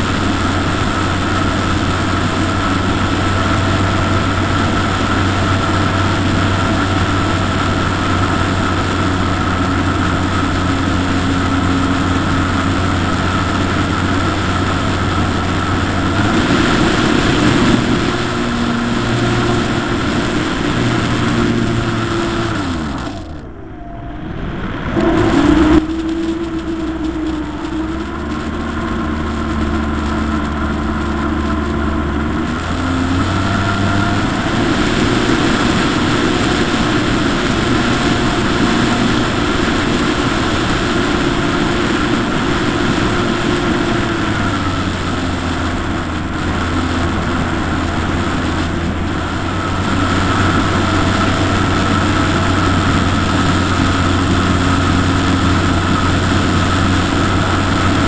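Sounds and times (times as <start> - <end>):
model airplane motor and propeller: 0.0 - 23.7, 24.8 - 58.0
air rushing past: 0.0 - 58.0.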